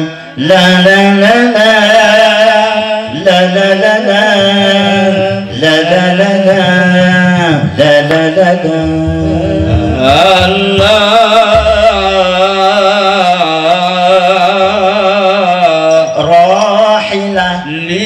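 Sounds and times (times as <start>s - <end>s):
men chanting through microphones: 0.0s - 18.0s.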